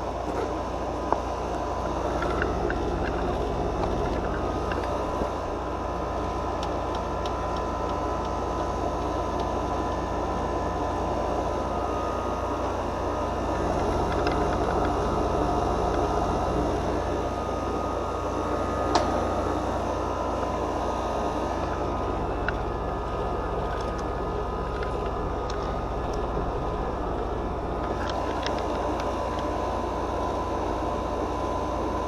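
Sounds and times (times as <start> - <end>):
mechanical drone with low hum: 0.0 - 32.0.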